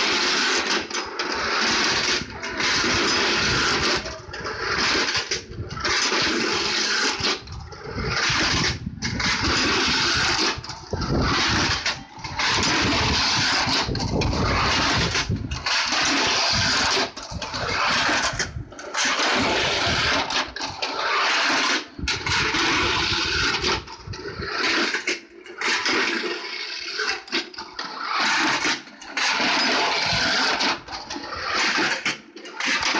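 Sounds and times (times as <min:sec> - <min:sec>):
clockwork toy cars rattling on metal track: 0:00.0 - 0:32.9.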